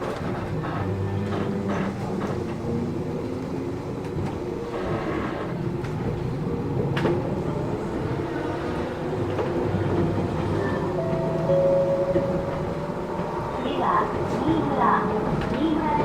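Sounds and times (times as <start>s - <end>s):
train wheels and motors rumbling: 0.0s - 16.0s.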